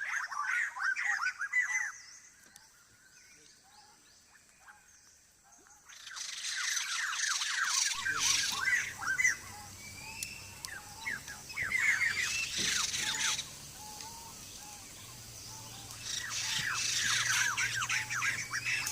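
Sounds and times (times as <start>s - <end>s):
birds calling: 0.0s - 18.9s.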